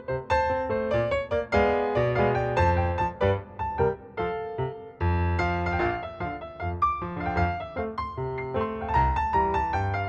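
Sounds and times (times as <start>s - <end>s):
piano melody: 0.0s - 10.0s
repeating piano bass notes: 0.0s - 10.0s.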